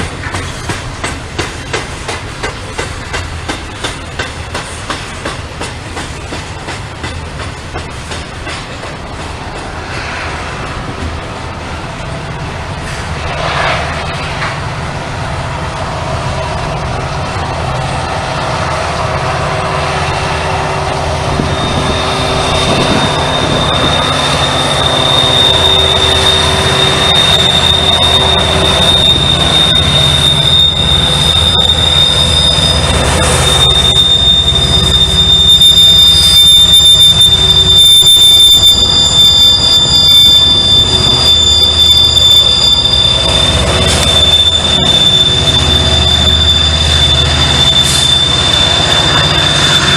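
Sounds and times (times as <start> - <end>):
freight train rumbling past: 0.0 - 49.9
train wheels squealing: 0.0 - 49.9.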